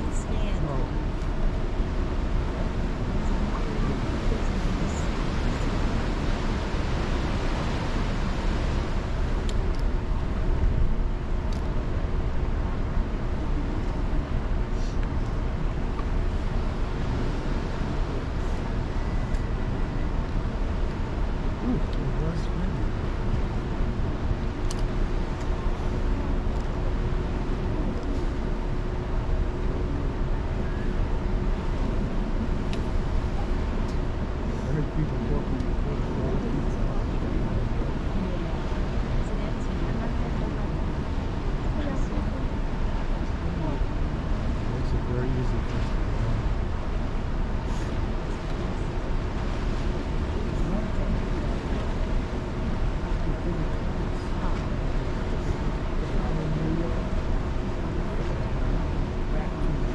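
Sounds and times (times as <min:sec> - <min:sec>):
cruise ship rumble: 0:00.0 - 0:59.9
faint constant hum: 0:00.0 - 0:59.9.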